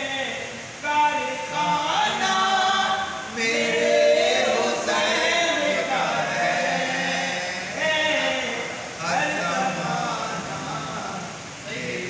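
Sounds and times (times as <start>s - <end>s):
voices singing devotional song: 0.0s - 12.0s.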